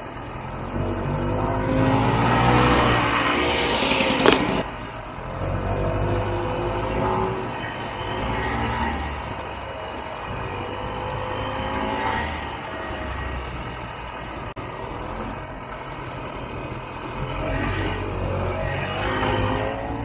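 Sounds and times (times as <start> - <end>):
snowmobile engine running: 0.0 - 20.0.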